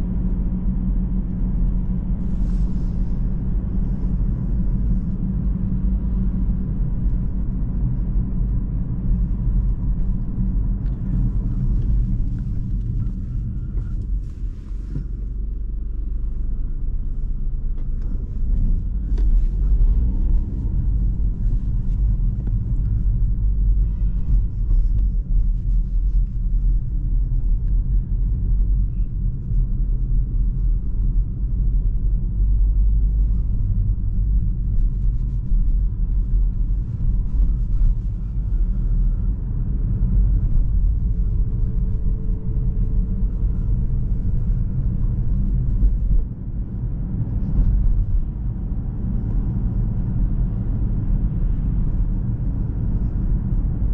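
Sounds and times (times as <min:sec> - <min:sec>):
diesel engine rumble: 0:00.0 - 0:53.9.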